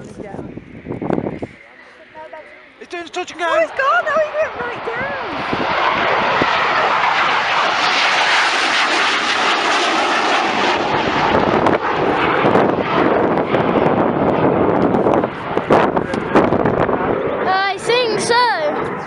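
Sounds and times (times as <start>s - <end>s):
deep rumble: 0.0s - 17.9s
fighter jet engines landing: 0.0s - 19.0s.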